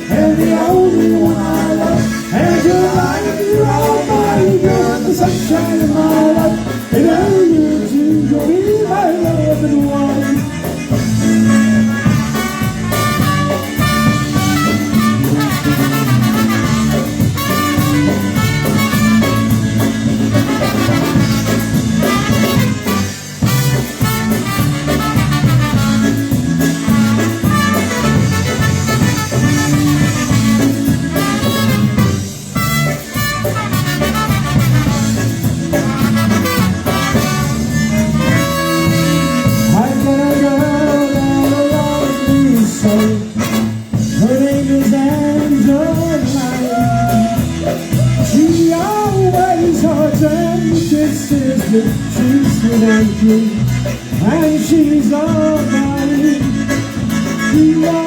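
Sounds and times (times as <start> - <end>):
live dance band playing: 0.0 - 58.0
repeating bass rhythm: 0.0 - 58.0.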